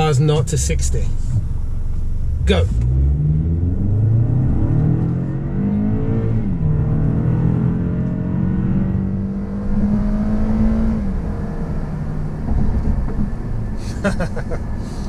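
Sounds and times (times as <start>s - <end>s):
car engine at full throttle: 0.0s - 15.0s
road noise: 0.0s - 15.0s.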